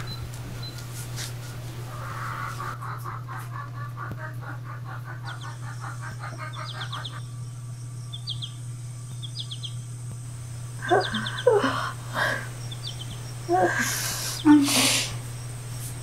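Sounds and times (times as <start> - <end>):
birds chirping: 0.0 - 16.0
low electrical hum: 0.0 - 16.0.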